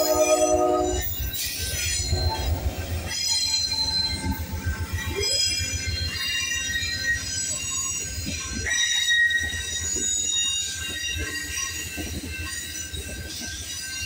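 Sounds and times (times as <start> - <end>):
high ringing wheel squeal: 0.0 - 14.0
train wheels rumbling on track: 0.0 - 14.0.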